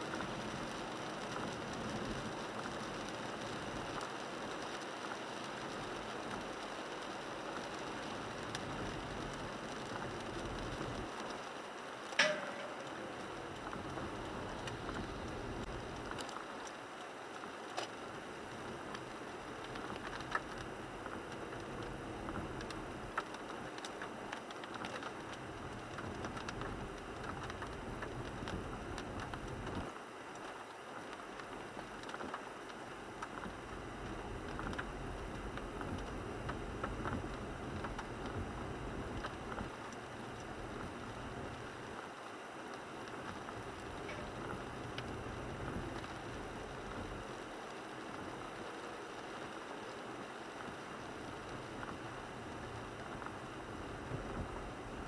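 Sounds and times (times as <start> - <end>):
raindrops ticking on windshield: 0.0 - 55.0
tyre noise on wet road: 0.0 - 55.0.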